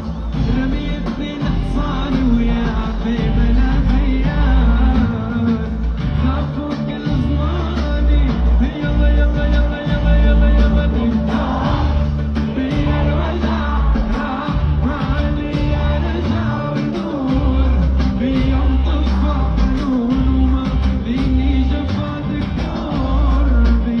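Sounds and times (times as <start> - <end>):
band with heavy bass: 0.0 - 24.0.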